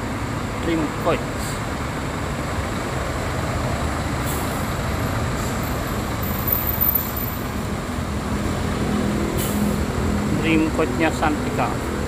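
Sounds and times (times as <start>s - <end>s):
bus diesel engines rumbling: 0.0s - 12.0s
tyre and road noise: 0.0s - 12.0s.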